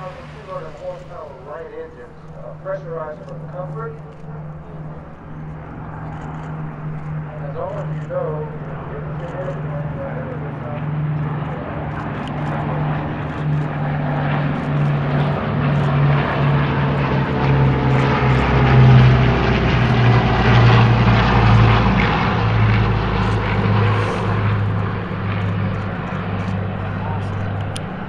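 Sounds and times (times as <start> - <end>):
propeller aircraft flyover: 0.0 - 28.0.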